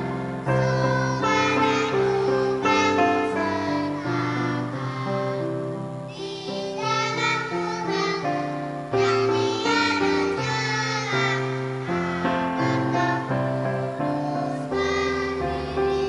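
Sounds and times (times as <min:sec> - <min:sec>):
children's choir singing a hymn: 0:00.0 - 0:16.0
keyboard accompaniment: 0:00.0 - 0:16.0.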